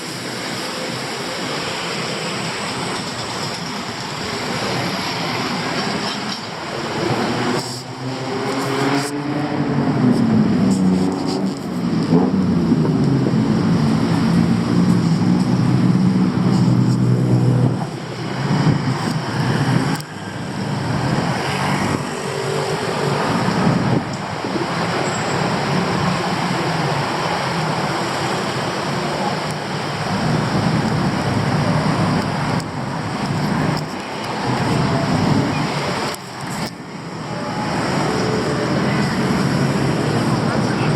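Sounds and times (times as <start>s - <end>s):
street traffic: 0.0s - 40.9s.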